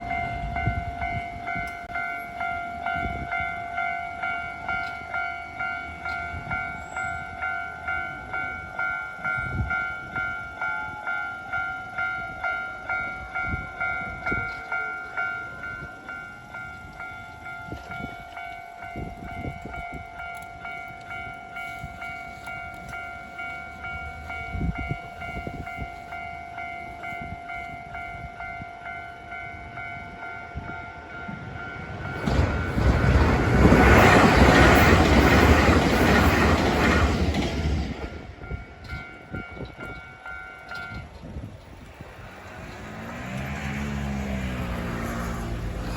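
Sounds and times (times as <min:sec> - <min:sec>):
crossing warning bell: 0:00.0 - 0:45.9
train rumbling: 0:00.0 - 0:45.9.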